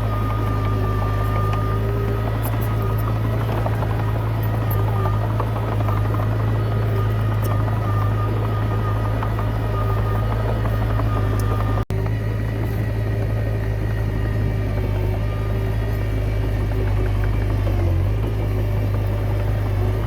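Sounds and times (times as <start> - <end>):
bulldozer diesel engine droning: 0.0 - 20.0.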